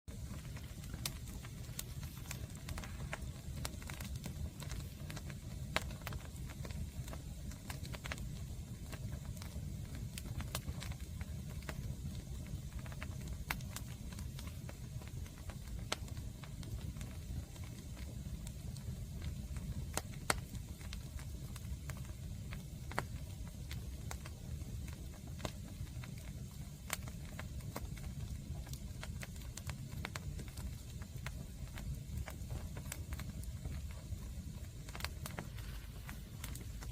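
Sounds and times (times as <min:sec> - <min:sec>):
campfire crackling and popping: 0:00.1 - 0:36.9.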